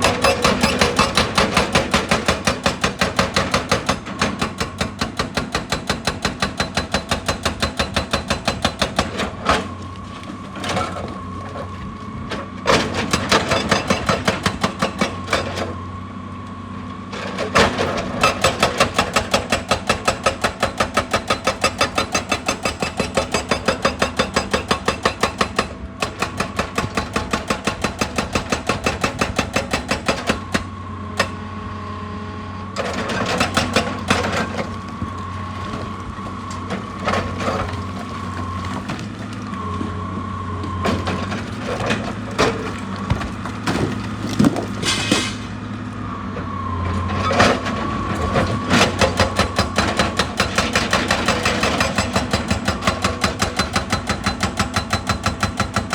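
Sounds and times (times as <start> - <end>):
hydraulic breaker hammering rock: 0.0 - 9.8, 12.7 - 15.7, 17.5 - 31.4, 32.8 - 39.7, 40.7 - 45.4, 48.2 - 55.9
excavator engine with hydraulic whine: 0.0 - 55.9.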